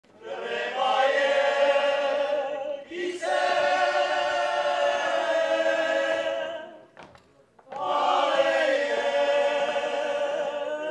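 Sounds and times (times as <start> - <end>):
men's choir singing a cappella: 0.1 - 6.9, 7.7 - 10.9.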